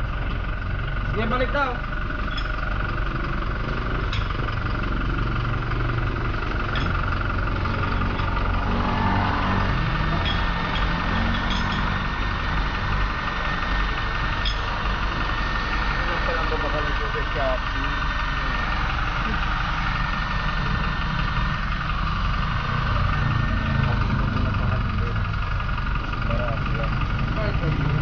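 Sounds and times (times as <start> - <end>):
motor running: 0.0 - 28.0.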